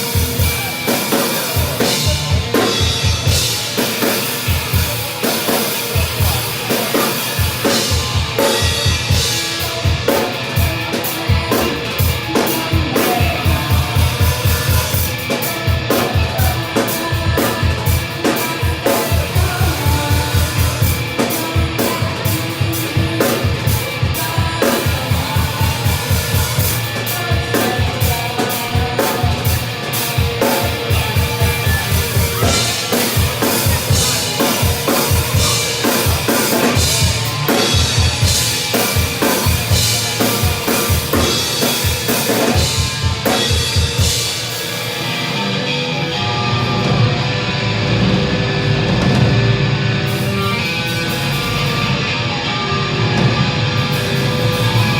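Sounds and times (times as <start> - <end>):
drum kit played fast: 0.0 - 54.9.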